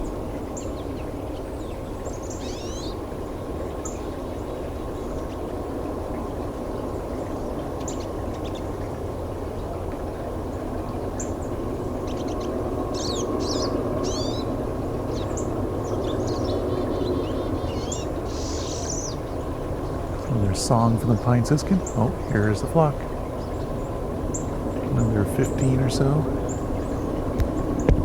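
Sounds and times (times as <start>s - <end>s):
birds chirping and twittering: 0.0s - 28.0s
steady low rumble: 3.0s - 28.0s.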